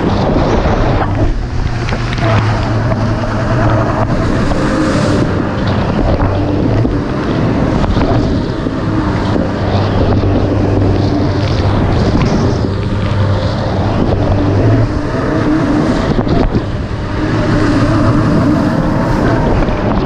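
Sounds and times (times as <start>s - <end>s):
watercraft engine running: 0.0s - 20.0s
wind buffeting microphone: 0.0s - 20.0s.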